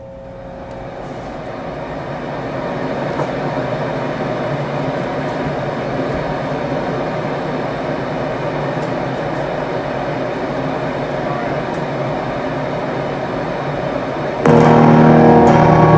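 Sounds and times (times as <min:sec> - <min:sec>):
steady rumbling ambient noise: 0:00.0 - 0:15.9.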